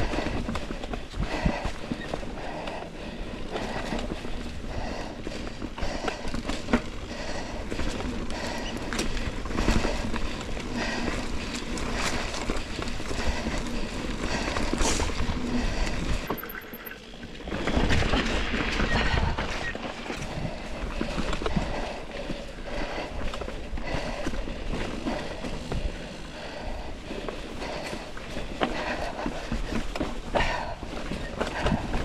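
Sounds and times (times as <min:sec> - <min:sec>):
bike tyres crunching over leaves: 0:00.1 - 0:32.0.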